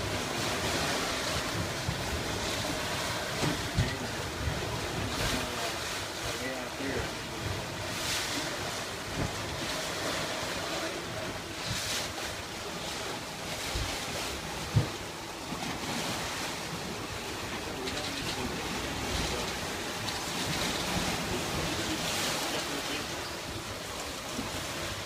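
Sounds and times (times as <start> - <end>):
water rushing past boat hull: 0.0 - 25.0
wind: 0.0 - 25.0.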